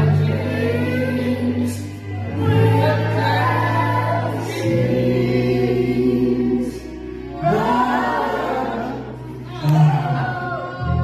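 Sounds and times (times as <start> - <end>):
choir-like singing: 0.0 - 11.0.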